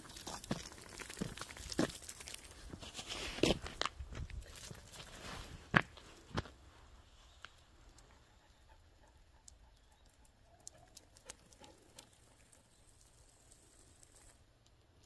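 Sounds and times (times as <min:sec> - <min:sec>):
footsteps and paws on concrete: 0:00.0 - 0:14.4.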